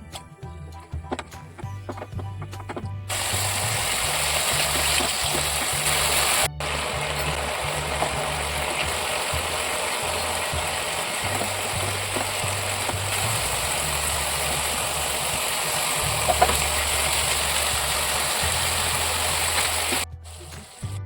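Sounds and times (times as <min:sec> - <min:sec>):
music with bass beat: 0:00.0 - 0:21.0
loud hissing noise: 0:03.1 - 0:21.0.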